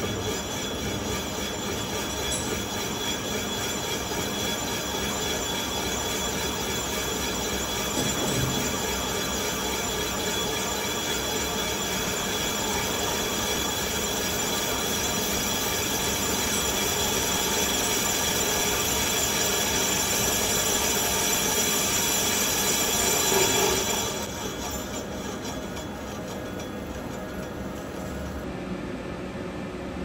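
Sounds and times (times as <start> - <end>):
lathe cutting with high whine: 0.0 - 28.4.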